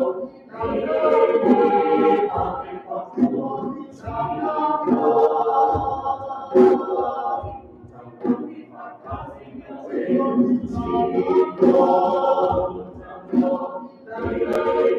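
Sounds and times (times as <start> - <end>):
choir singing a hymn: 0.0 - 14.9
low djembe beats: 0.6 - 14.9.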